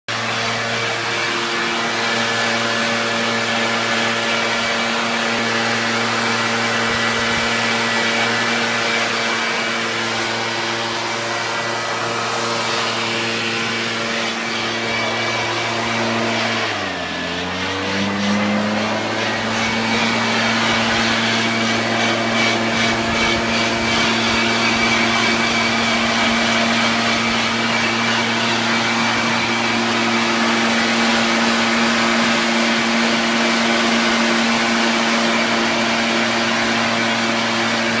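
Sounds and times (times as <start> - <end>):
leaf blower engine running: 0.1 - 38.0.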